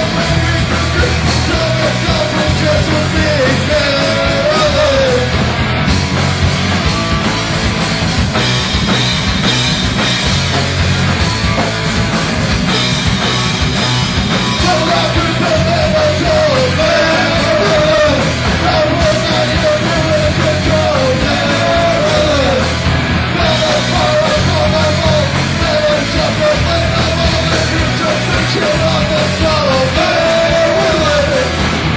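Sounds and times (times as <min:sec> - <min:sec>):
distorted electric guitar: 0:00.0 - 0:31.9
drums: 0:00.0 - 0:31.9.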